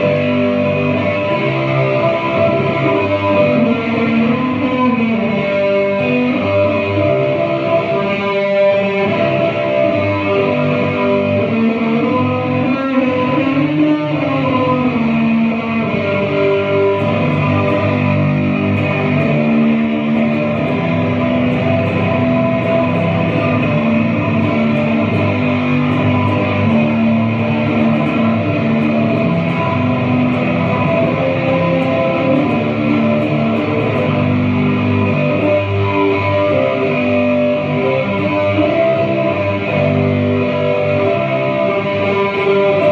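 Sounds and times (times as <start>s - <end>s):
guitar with sustained notes: 0.0s - 42.9s.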